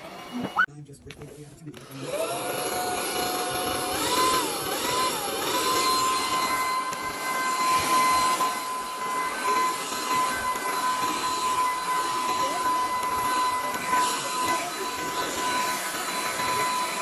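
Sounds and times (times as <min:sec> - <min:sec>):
stick vacuum motor whining: 0:00.0 - 0:00.7, 0:01.6 - 0:17.0.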